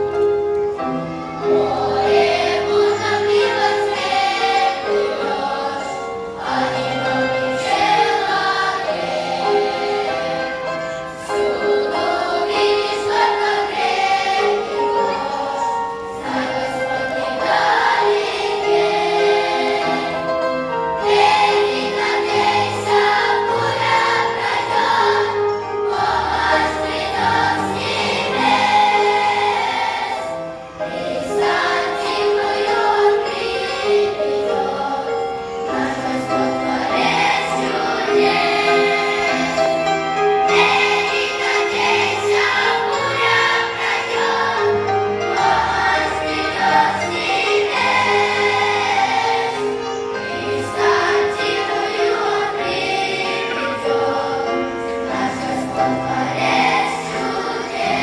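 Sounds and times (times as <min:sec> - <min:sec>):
children's choir singing a hymn: 0:00.0 - 0:58.0.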